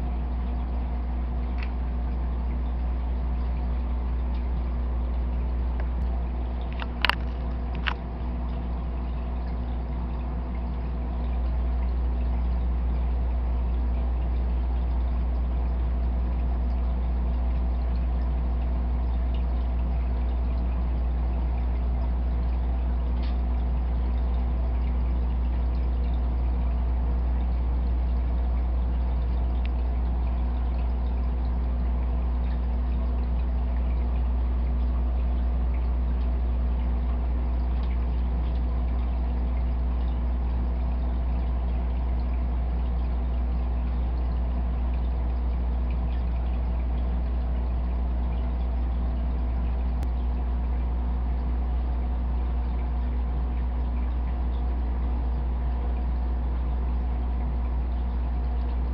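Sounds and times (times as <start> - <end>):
low motor hum: 0.0 - 58.9
water trickling: 0.0 - 58.9.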